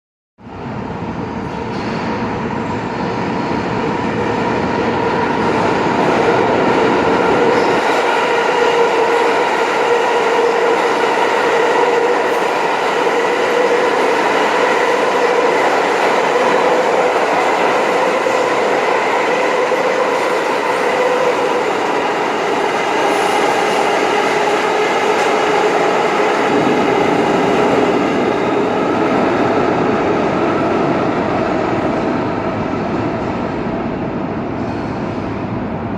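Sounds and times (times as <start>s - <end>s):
subway trains passing: 0.4s - 35.9s.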